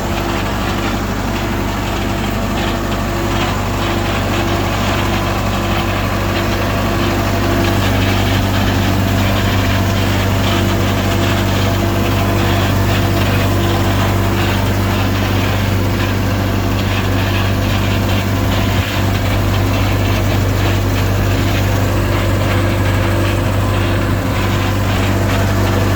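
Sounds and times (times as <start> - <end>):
diesel engine running steadily: 0.0 - 25.9.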